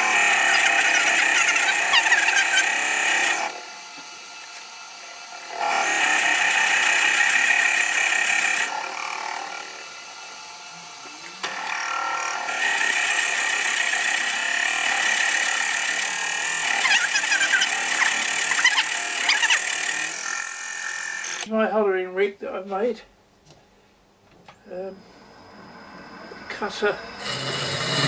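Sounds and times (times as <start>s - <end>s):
drill bit boring into spinning wood: 0.0s - 21.5s, 25.0s - 28.0s.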